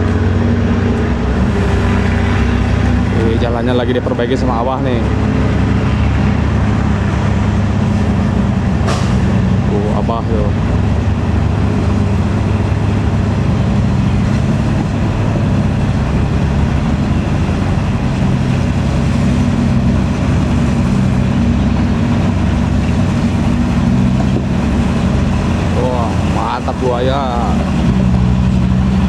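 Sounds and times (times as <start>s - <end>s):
diesel truck engine droning: 0.0s - 29.0s.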